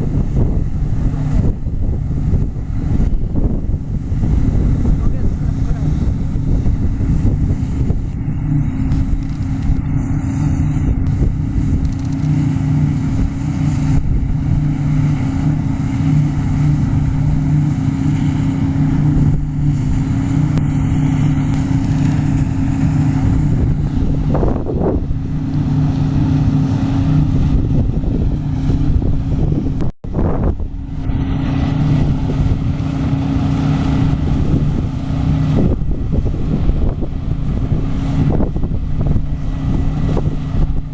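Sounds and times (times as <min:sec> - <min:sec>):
diesel engine running: 0:00.0 - 0:40.9
wind buffeting microphone: 0:00.0 - 0:40.9.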